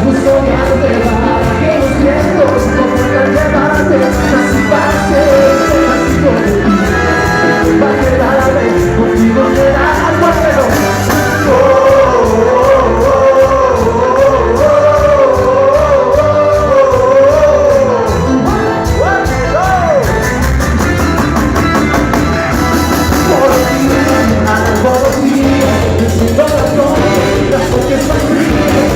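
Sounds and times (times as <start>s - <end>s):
bass and drum beat: 0.0s - 28.9s.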